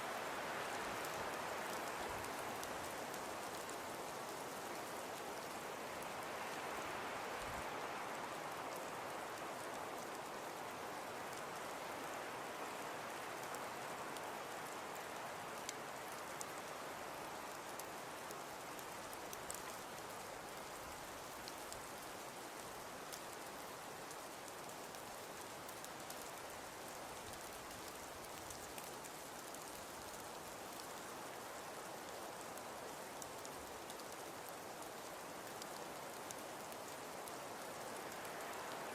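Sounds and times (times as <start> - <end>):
wood fire crackling: 0.2 - 11.8, 13.4 - 38.9.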